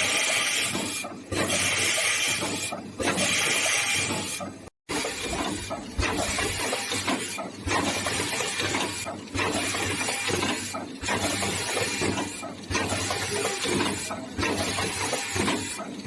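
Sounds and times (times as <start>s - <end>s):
machine mechanical clatter: 0.0s - 16.0s.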